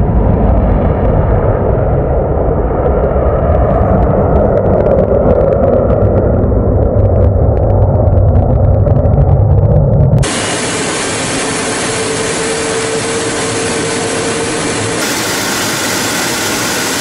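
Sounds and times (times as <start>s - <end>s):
jet engines roaring with crackle: 0.0s - 17.0s.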